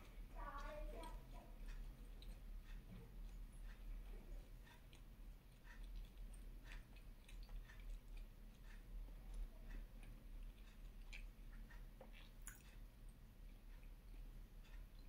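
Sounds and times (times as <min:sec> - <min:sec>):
low steady hum: 0:00.0 - 0:15.0
person chewing food: 0:00.0 - 0:15.0.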